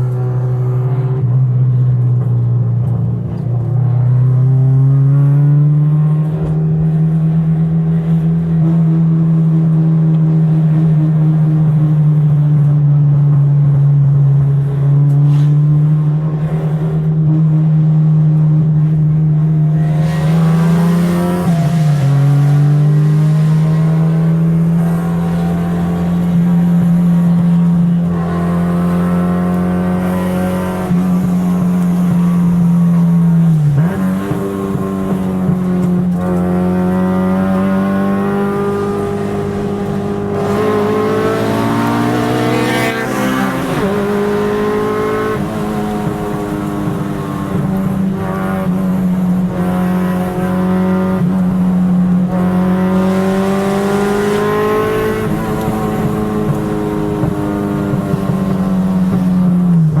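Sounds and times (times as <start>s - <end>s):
car engine at high revs: 0.0s - 60.0s.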